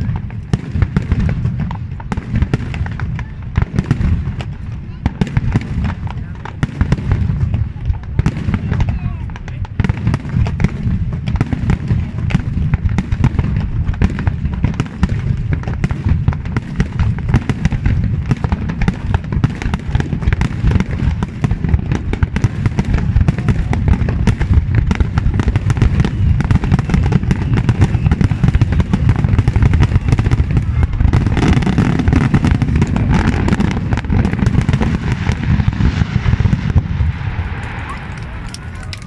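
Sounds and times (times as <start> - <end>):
fireworks bangs and crackles: 0.0 - 39.0
low rumble of booms: 0.0 - 39.0.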